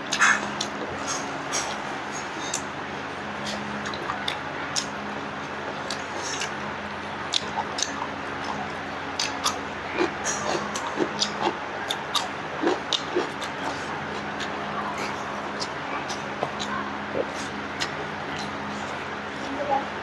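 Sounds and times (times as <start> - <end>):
steady low hum: 0.0 - 20.0
wet chewing and lip smacks: 0.1 - 19.5.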